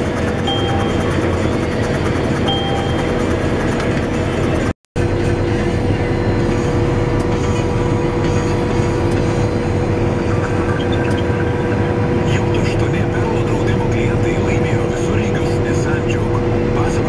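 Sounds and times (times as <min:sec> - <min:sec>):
combine harvester drone: 0:00.0 - 0:17.0.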